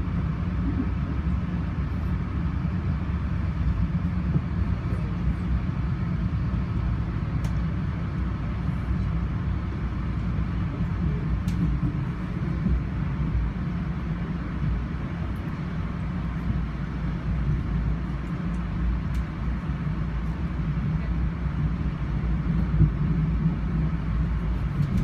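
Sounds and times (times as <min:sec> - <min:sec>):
trains rumbling on track: 0:00.0 - 0:25.0.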